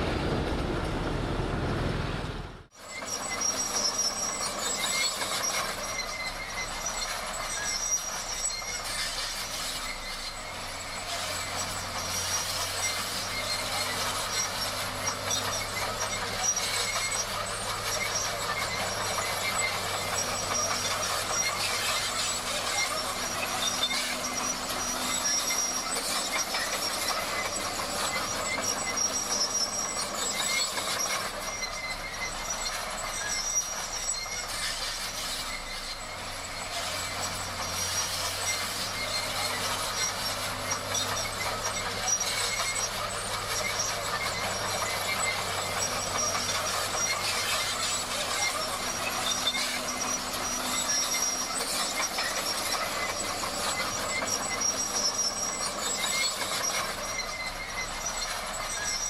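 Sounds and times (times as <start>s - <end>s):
steel tracks clattering and squealing: 0.0s - 59.0s.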